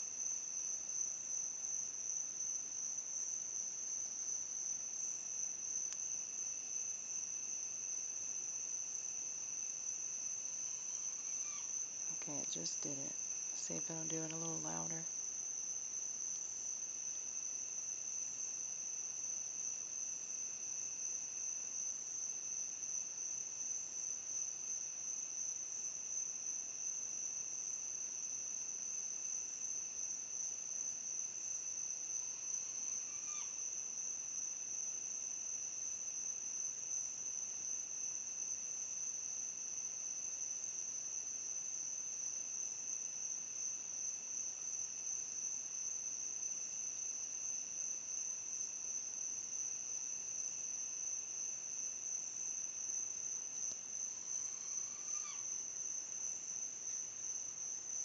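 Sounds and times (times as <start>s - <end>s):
night insects trilling: 0.0s - 58.0s.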